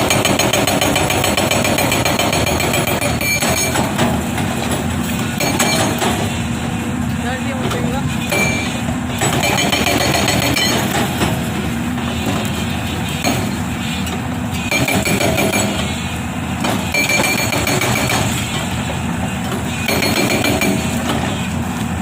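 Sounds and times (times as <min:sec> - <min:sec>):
hydraulic rock breaker hammering: 0:00.0 - 0:06.4, 0:07.6 - 0:21.6
excavator engine running: 0:00.0 - 0:22.0.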